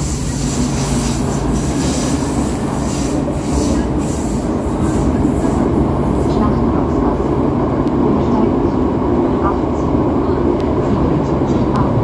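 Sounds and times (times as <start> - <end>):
subway train running rumble: 0.0 - 12.0.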